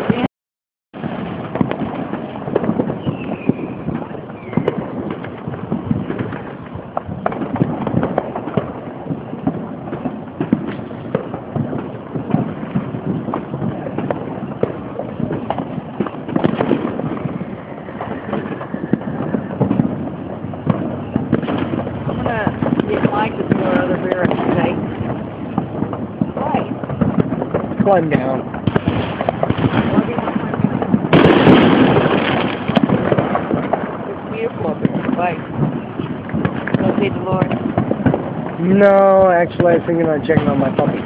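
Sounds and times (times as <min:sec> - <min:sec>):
fireworks and firecrackers crackling: 0:00.0 - 0:00.3, 0:01.0 - 0:41.0.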